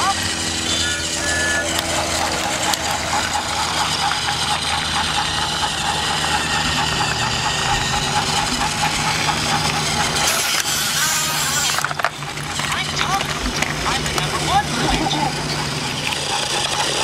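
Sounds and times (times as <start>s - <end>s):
toy train electric motor whirring: 0.0s - 17.0s.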